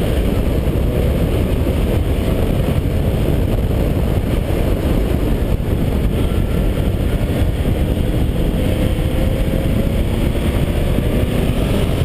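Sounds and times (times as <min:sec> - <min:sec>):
car engine running at speed: 0:00.0 - 0:12.0
road noise: 0:00.0 - 0:12.0
wind buffeting: 0:00.0 - 0:12.0.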